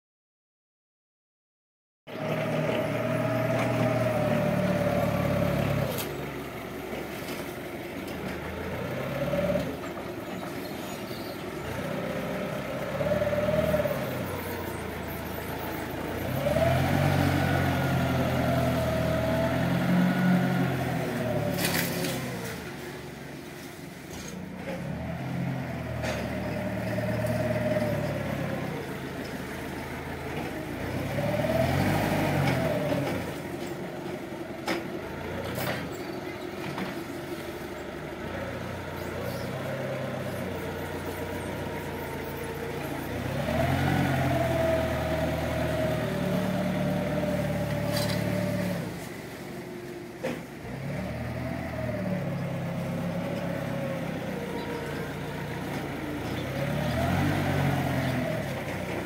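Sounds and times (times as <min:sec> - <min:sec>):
engine whine: 0:02.1 - 0:59.0
forklift engine revving: 0:02.1 - 0:59.0.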